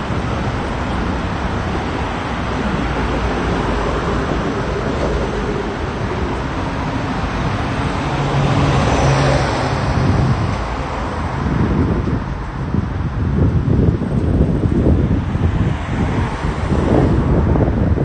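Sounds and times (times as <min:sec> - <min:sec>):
cars driving past: 0:00.0 - 0:18.0
vehicle engine hum passing close: 0:00.0 - 0:18.0.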